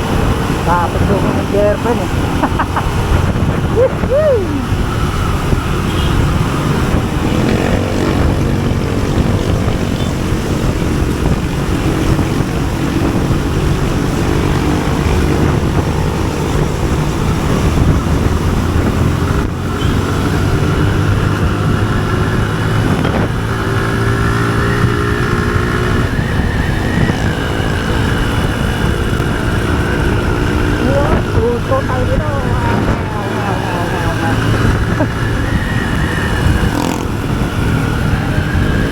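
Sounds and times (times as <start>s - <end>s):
motorcycle engine accelerating: 0.0s - 38.9s
road and wind noise: 0.0s - 38.9s.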